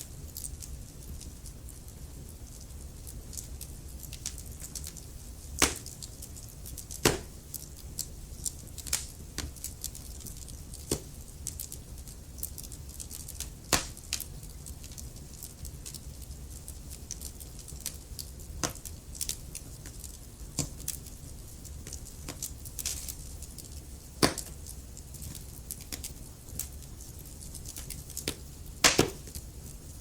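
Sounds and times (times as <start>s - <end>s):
wood fire crackling in a fireplace: 0.0s - 30.0s.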